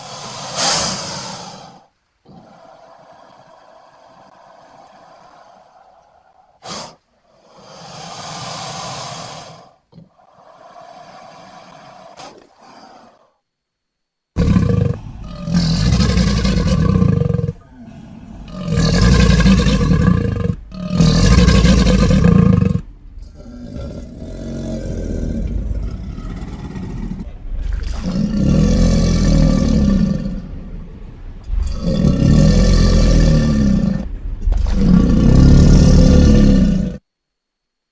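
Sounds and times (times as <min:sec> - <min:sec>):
crocodile roaring: 0:00.0 - 0:13.4, 0:14.4 - 0:37.0.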